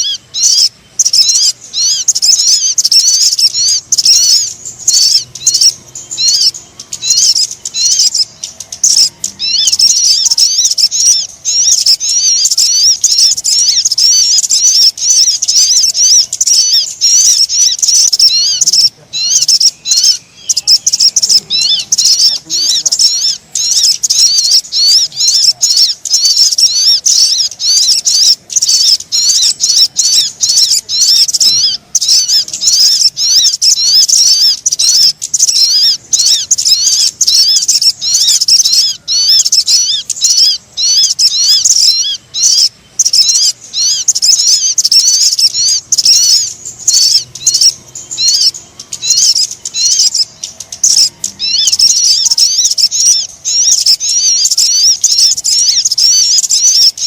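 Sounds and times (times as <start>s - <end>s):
birds chirping rapidly: 0.0s - 57.0s.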